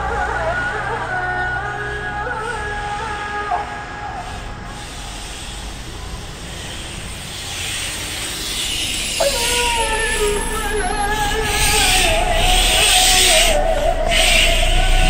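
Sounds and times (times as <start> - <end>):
rushing outdoor ambience: 0.0 - 15.0.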